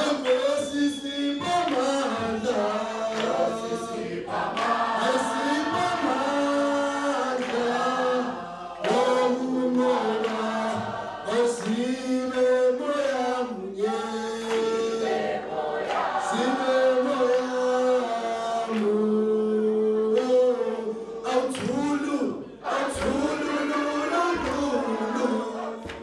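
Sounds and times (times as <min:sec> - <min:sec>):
group of people singing: 0:00.0 - 0:26.0.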